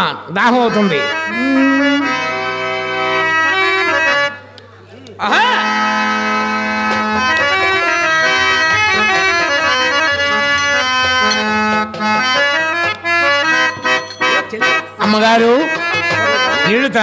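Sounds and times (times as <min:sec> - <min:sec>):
harmonium melody: 0:00.9 - 0:04.4, 0:05.8 - 0:17.0.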